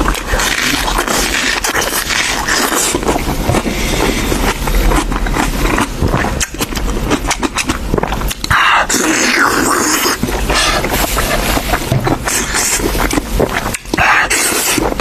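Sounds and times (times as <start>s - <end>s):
wet chewing and lip-smacking: 0.0s - 15.0s.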